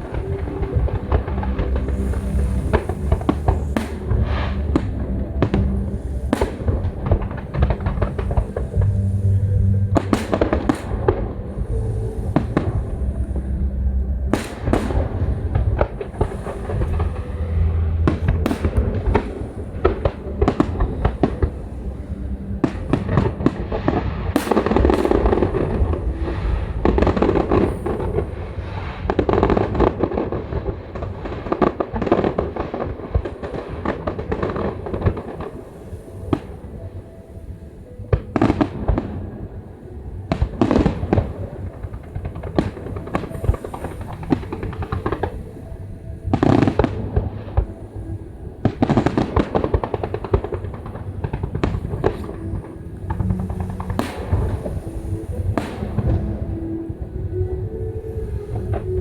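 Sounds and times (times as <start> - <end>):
fireworks bangs and crackling: 0.0 - 13.7, 14.3 - 37.0, 40.3 - 57.3
music with low bass line: 0.0 - 59.0.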